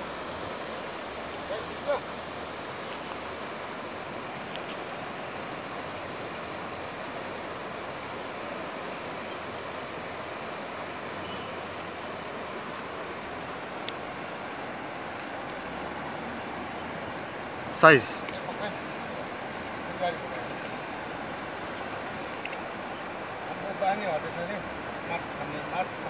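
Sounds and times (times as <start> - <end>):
fast-flowing river rushing: 0.0 - 26.0.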